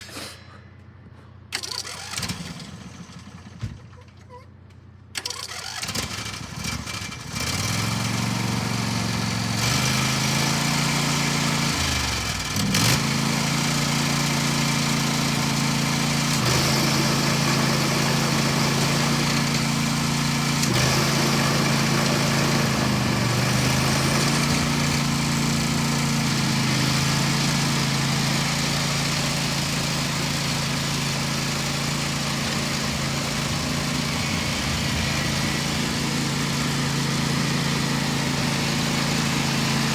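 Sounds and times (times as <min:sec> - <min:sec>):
lawn tractor engine running: 0:01.5 - 0:04.3, 0:05.0 - 0:39.9.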